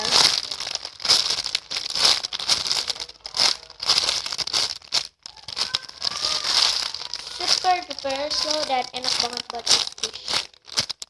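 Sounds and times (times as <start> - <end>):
plastic crinkling: 0.0 - 11.0.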